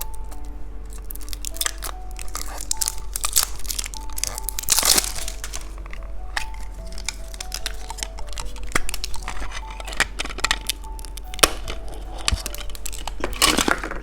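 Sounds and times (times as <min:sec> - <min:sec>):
plastic packaging crinkling: 0:00.0 - 0:14.0
soft melody: 0:00.0 - 0:14.0.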